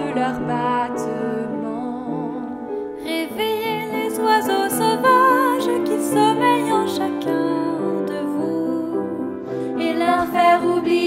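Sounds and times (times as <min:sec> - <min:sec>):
woman singing with vibrato: 0:00.0 - 0:09.2
upright piano: 0:00.0 - 0:11.0.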